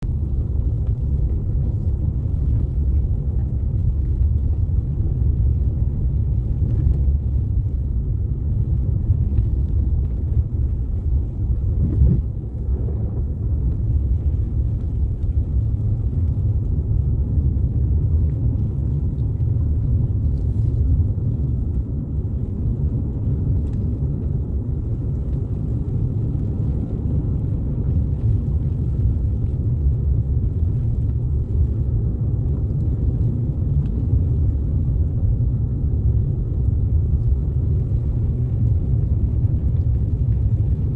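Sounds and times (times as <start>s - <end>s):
car driving on snowy road: 0.0s - 40.9s.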